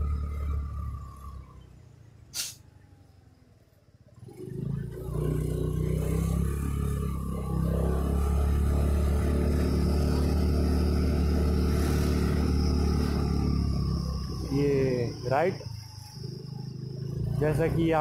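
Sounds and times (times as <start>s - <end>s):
motorcycle engine running: 0.0s - 3.3s, 4.1s - 18.0s.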